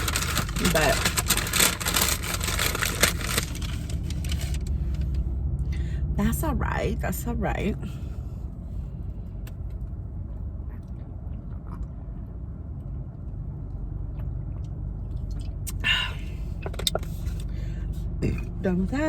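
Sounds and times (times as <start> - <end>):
low rumble inside car: 0.0 - 19.0.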